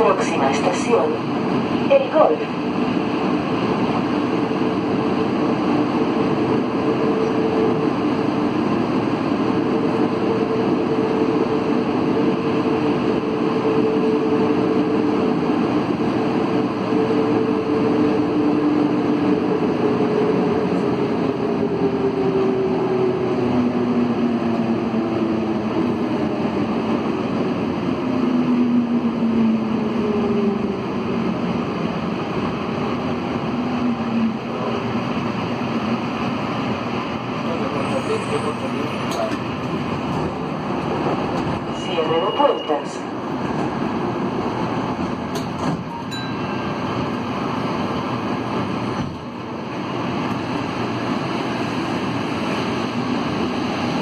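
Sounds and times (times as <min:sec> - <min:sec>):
train rolling noise: 0:00.0 - 0:54.0.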